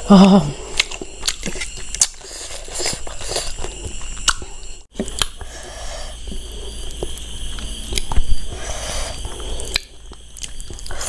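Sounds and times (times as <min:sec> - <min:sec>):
wet chewing: 0:00.7 - 0:05.5, 0:06.2 - 0:11.0.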